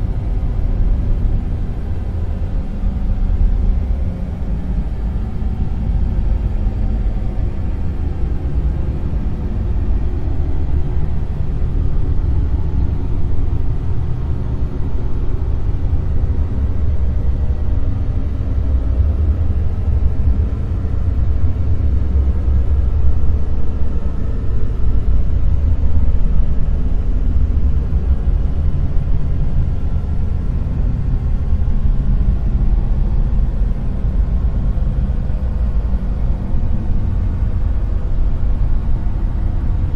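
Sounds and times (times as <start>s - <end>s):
deep rumbling hiss: 0.0s - 39.9s.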